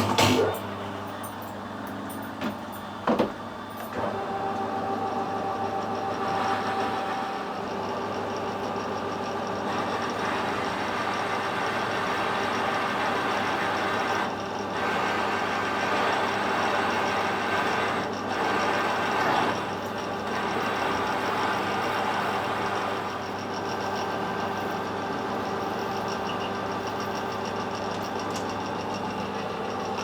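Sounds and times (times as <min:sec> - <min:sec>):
lathe motor hum: 0:03.9 - 0:30.0.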